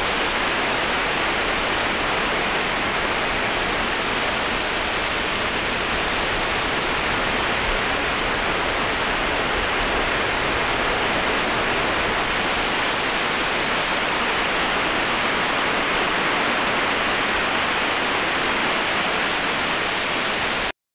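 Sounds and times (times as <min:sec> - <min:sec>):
steady rushing hiss: 0:00.0 - 0:20.7.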